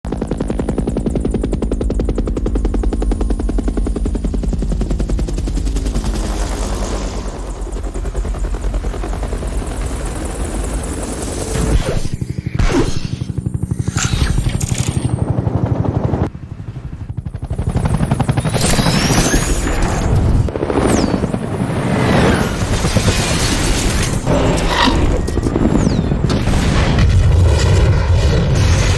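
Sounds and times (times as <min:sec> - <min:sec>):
helicopter rotor blades chopping: 0:00.1 - 0:28.9.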